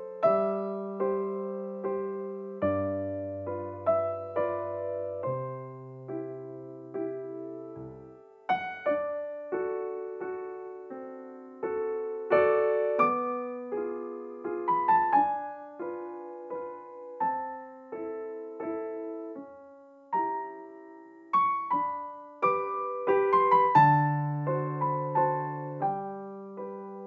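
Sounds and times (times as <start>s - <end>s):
gentle piano melody: 0.0s - 27.0s.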